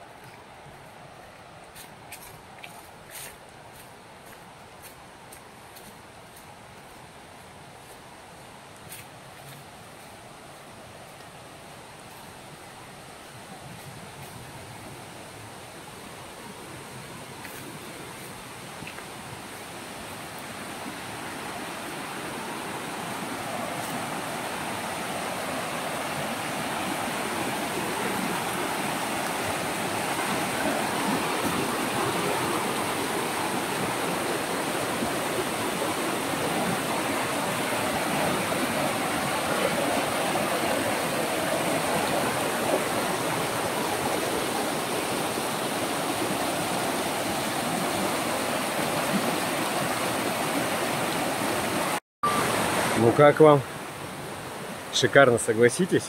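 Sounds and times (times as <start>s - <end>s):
river rushing over rocks: 9.7s - 56.0s.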